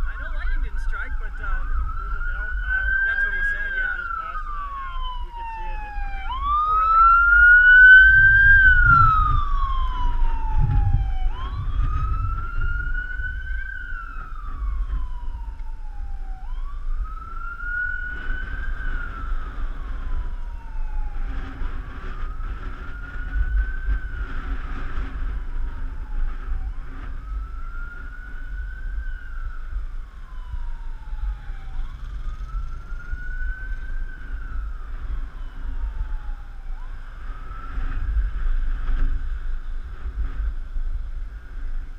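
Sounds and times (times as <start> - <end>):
fire engine siren wailing: 0.0 - 41.9
wind buffeting microphone: 0.0 - 41.9.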